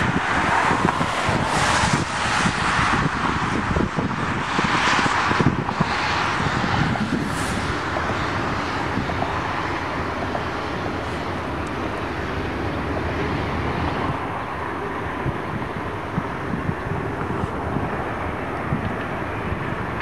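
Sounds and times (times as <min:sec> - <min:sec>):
distant freight train rumble: 0:00.0 - 0:20.0.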